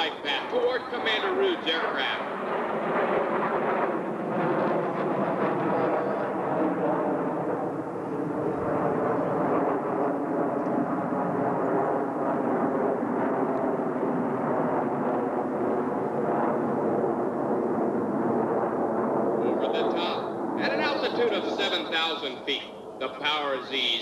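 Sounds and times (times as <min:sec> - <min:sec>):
jet engines overhead: 0:00.0 - 0:24.0.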